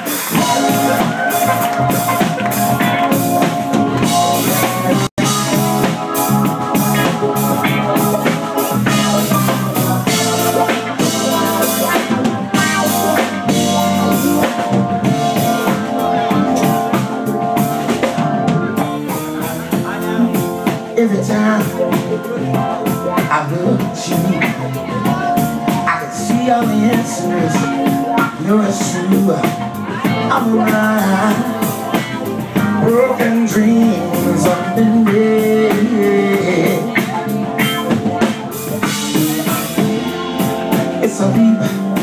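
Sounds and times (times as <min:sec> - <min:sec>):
drum kit beat: 0:00.0 - 0:42.0
electric guitars: 0:00.0 - 0:42.0.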